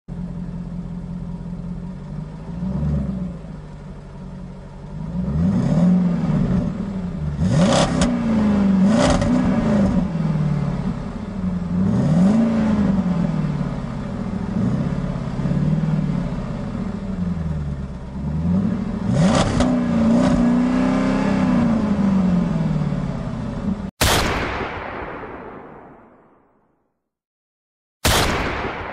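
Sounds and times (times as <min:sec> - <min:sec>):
car engines revving: 0:00.3 - 0:23.9.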